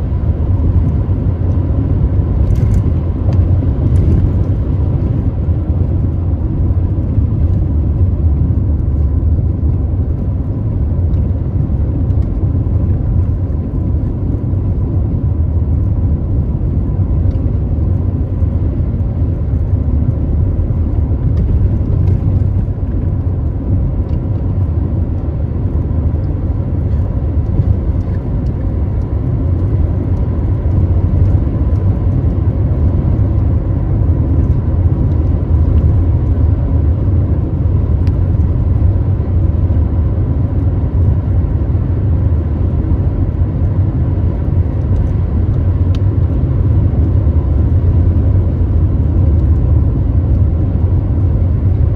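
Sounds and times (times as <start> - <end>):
car tyres and engine rumble: 0.0 - 51.9.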